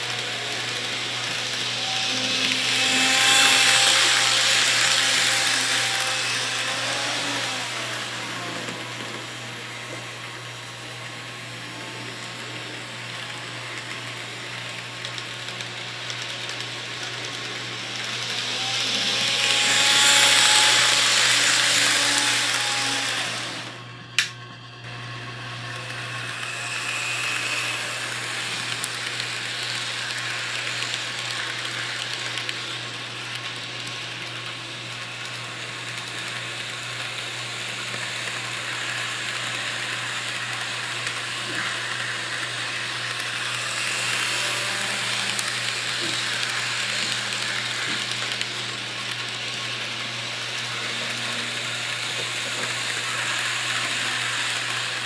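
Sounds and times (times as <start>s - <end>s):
model train motors whirring: 0.0s - 55.0s.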